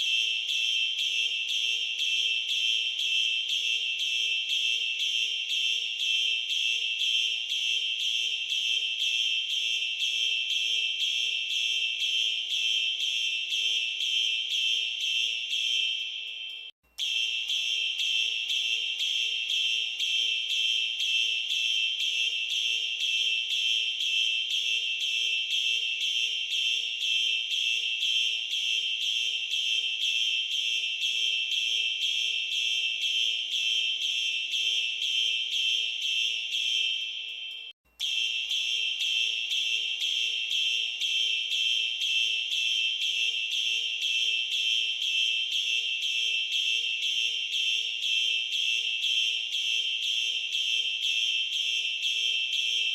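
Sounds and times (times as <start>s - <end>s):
fire alarm pulsing tone: 0.0s - 52.9s.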